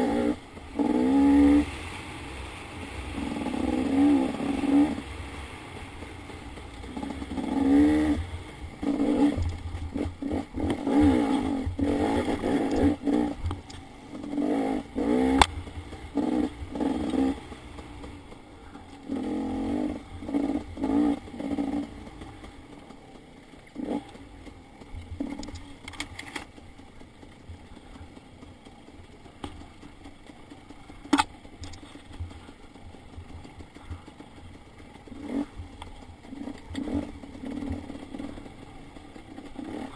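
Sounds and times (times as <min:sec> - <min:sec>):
dirt bike engine revving: 0:00.0 - 0:25.8, 0:26.6 - 0:39.9.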